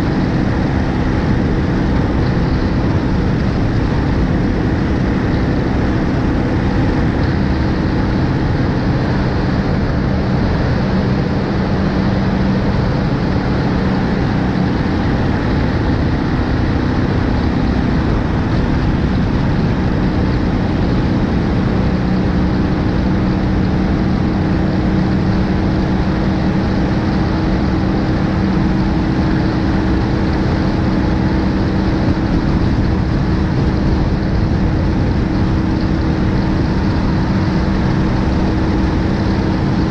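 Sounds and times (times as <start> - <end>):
motorcycle engine hum: 0.0 - 39.9
road noise: 0.0 - 39.9
rushing wind: 0.0 - 39.9.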